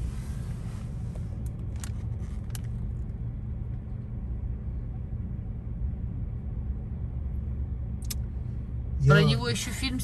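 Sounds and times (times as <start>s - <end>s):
car engine idling rumble: 0.0s - 10.0s.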